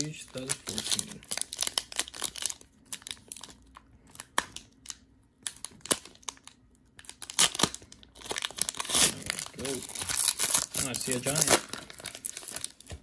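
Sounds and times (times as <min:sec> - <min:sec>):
card pack wrapper crinkling: 0:00.0 - 0:13.0.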